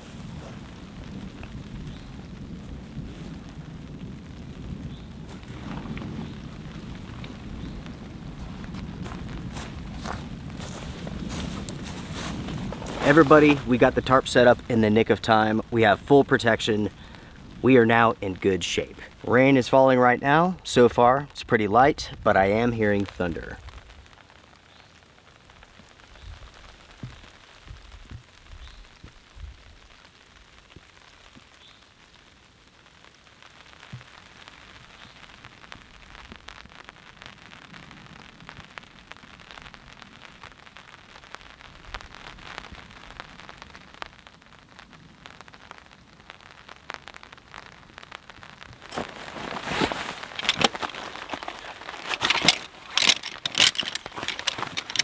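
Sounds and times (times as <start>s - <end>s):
rain drops ticking on a tarp: 0.0s - 55.0s.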